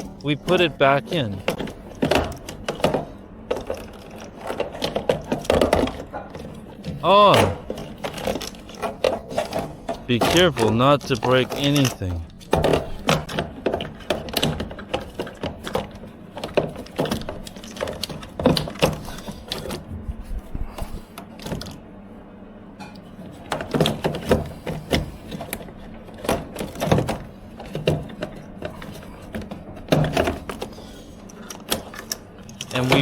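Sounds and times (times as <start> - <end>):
dryer parts clicking and knocking: 0.0 - 21.8, 22.8 - 33.0.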